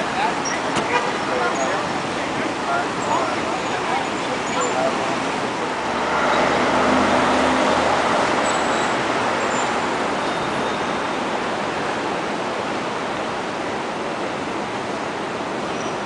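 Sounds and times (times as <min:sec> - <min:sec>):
cars going by: 0:00.0 - 0:16.0.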